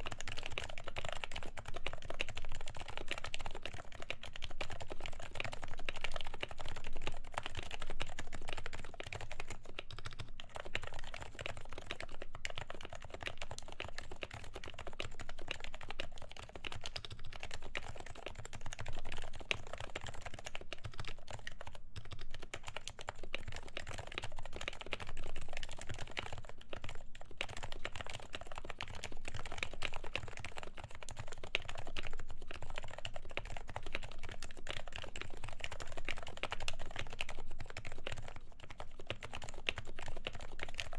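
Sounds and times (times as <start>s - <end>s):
soft muted keyboard typing: 0.0s - 40.9s.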